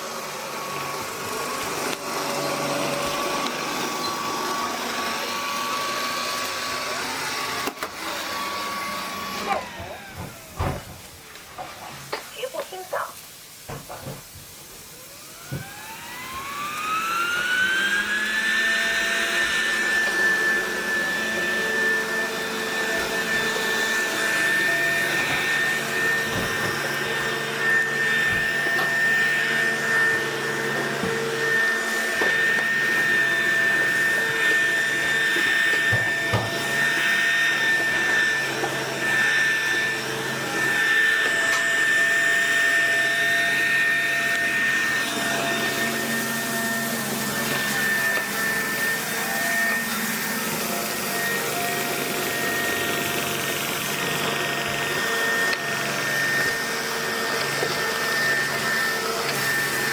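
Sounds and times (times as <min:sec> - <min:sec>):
robot vacuum cleaner whine: 0:00.0 - 0:59.9.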